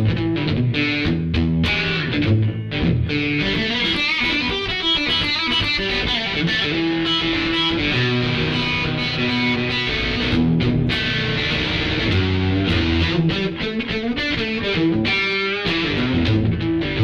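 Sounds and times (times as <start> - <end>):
electric guitar playing blues: 0.0 - 17.0.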